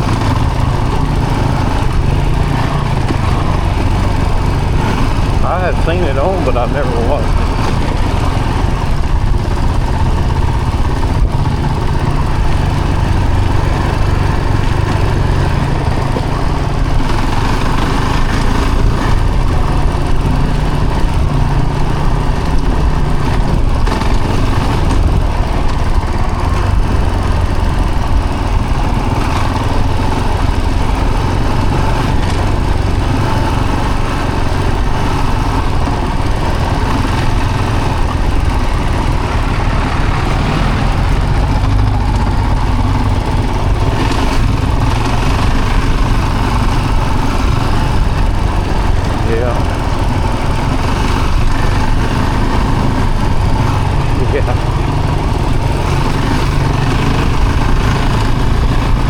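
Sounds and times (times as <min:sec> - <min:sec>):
road noise: 0:00.0 - 0:59.0
vehicle engine: 0:00.0 - 0:59.0.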